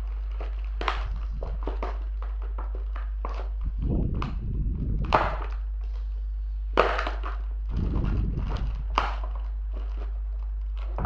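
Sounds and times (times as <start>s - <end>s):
low steady hum: 0.0s - 11.0s
plastic packaging rustling: 0.0s - 11.0s
sharp plastic crackles: 0.0s - 11.0s.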